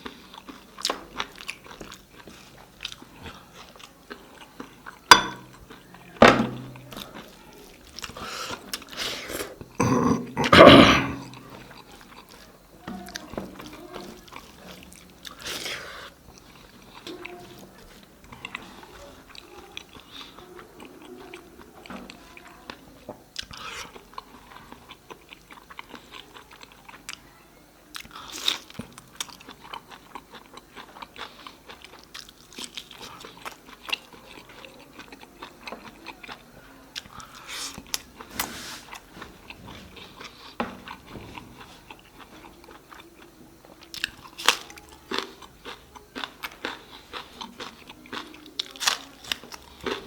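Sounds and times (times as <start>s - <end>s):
person chewing food: 0.0s - 27.2s, 27.9s - 50.0s.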